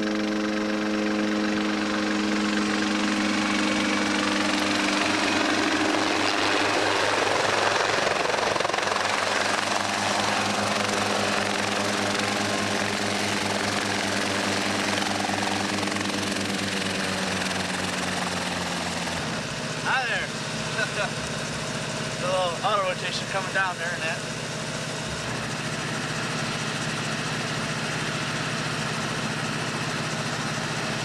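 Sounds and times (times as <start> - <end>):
helicopter rotor beating: 0.0 - 31.0.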